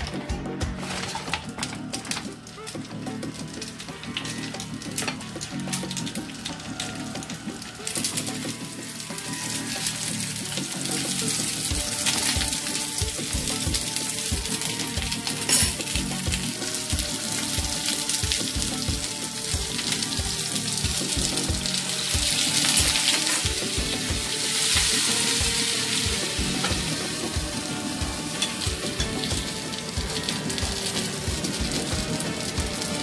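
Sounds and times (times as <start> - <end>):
dumplings sizzling in oil: 0.0 - 33.0.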